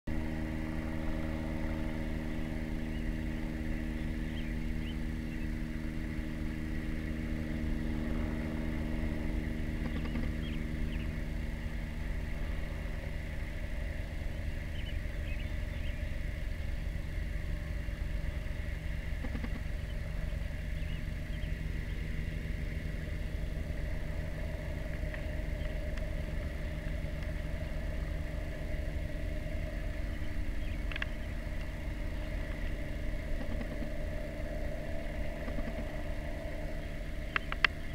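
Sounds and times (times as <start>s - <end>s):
vehicle engine idling: 0.1s - 37.9s.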